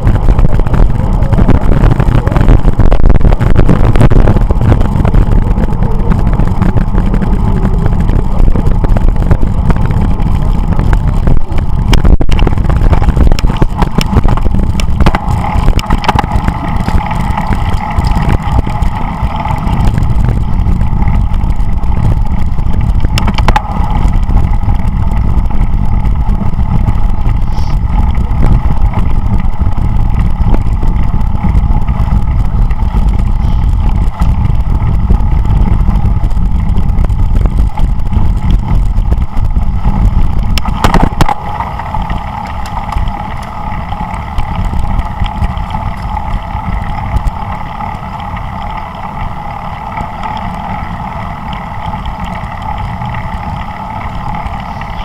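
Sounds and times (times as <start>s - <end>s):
steady whine: 0.0s - 55.0s
wind rumbling over microphone: 0.0s - 55.0s.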